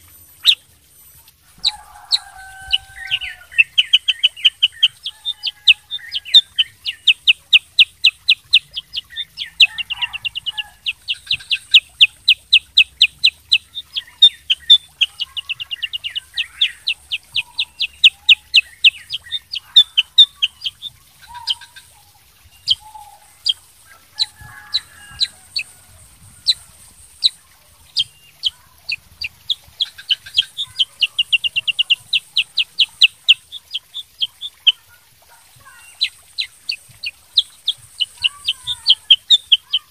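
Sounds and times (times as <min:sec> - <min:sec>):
bird singing high chirps: 0:00.0 - 0:23.6, 0:24.2 - 0:34.8, 0:35.6 - 0:39.9
faint high hiss: 0:00.0 - 0:39.8.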